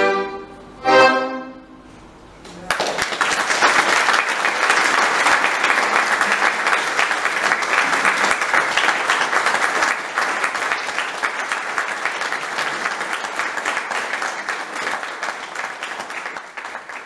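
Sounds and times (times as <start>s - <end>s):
audience applauding: 2.5s - 17.0s.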